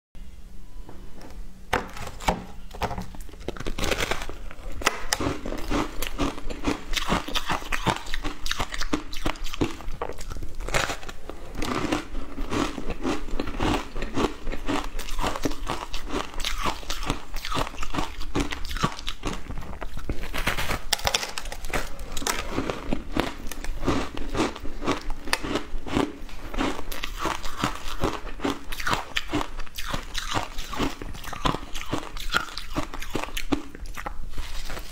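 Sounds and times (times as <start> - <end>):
crunching on shaved ice: 3.4 - 34.9.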